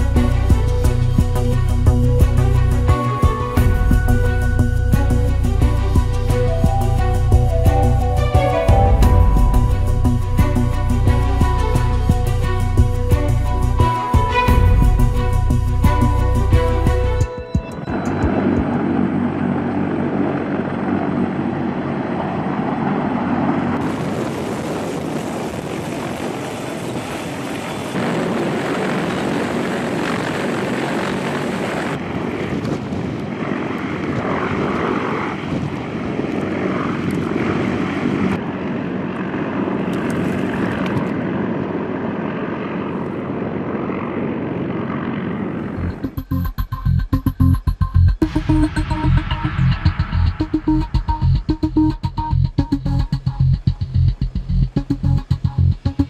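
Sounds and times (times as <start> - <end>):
helicopter rotor and turbine noise: 0.0 - 56.0.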